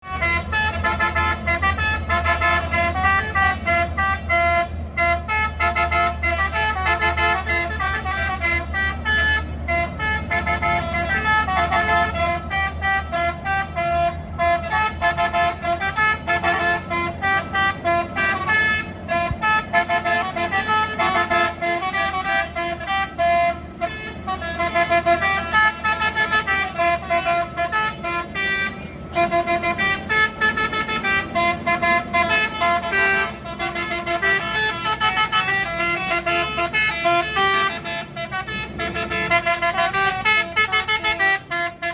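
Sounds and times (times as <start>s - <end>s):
low engine rumble: 0.0s - 41.9s
multi-tone air horn melody: 0.0s - 41.9s.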